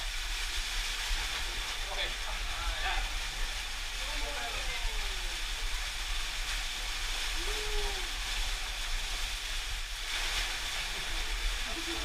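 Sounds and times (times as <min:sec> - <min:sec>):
waterfall pouring into pool: 0:00.0 - 0:12.0.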